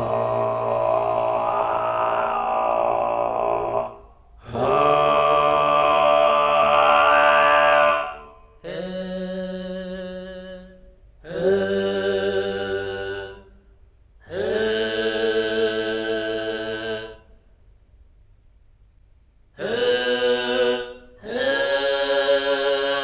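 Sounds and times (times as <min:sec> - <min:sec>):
deep chanting voice: 0:00.0 - 0:17.4, 0:19.6 - 0:23.0.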